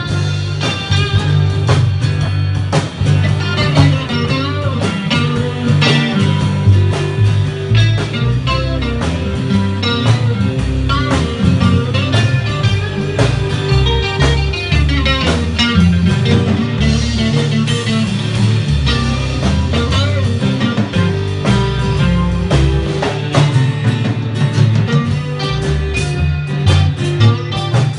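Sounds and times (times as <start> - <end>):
live blues rock band: 0.0 - 27.9.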